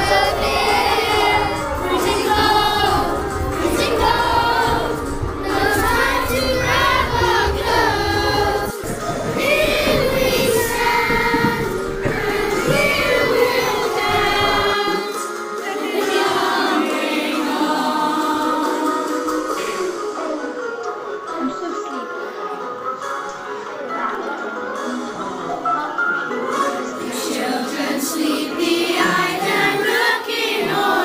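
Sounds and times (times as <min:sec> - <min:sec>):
voices singing together: 0:00.0 - 0:20.5, 0:26.5 - 0:31.0
backing music: 0:00.0 - 0:31.0.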